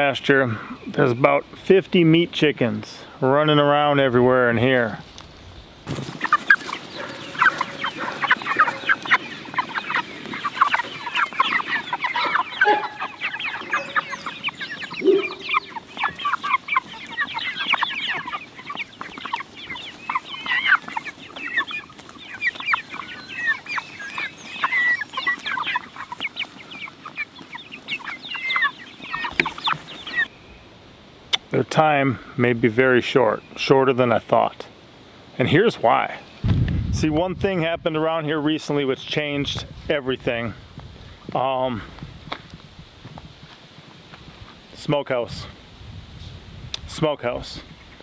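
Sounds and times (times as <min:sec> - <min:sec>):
chickens peeping and clucking: 0:00.0 - 0:48.0.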